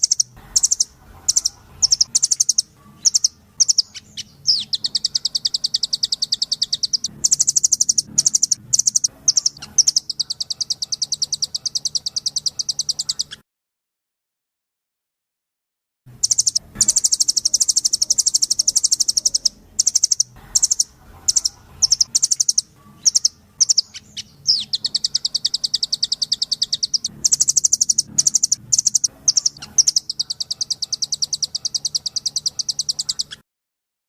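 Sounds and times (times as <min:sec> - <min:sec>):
nuthatch trilling: 0:00.0 - 0:13.4, 0:16.2 - 0:33.4.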